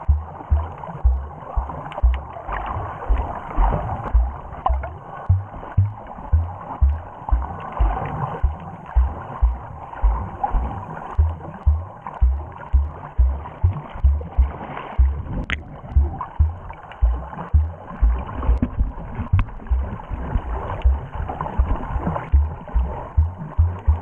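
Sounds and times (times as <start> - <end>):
low thumps of water on camera: 0.0 - 24.0
muffled underwater water noise: 0.0 - 24.0.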